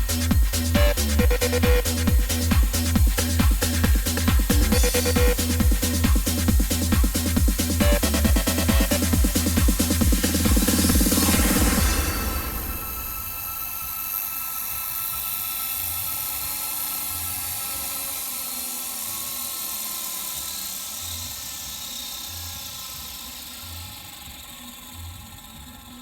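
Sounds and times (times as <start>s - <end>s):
toy helicopter motor whining: 0.0s - 26.0s.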